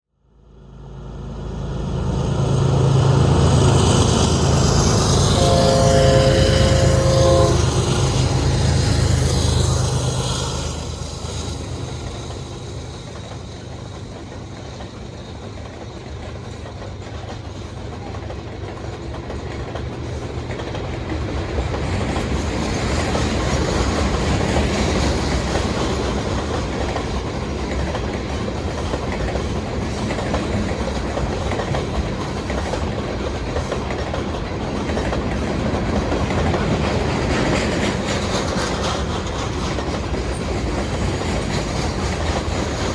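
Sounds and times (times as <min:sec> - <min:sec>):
diesel locomotive engine drone: 0:00.2 - 0:42.9
freight cars rattling on rails: 0:02.0 - 0:42.9.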